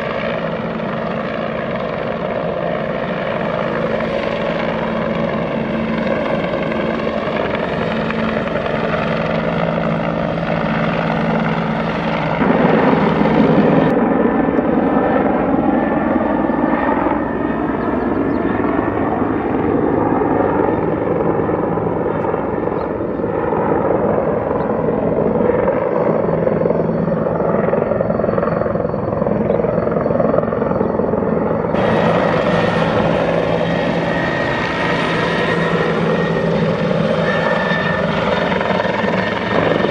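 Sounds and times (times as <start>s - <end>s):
helicopter flying past: 0.0s - 39.9s.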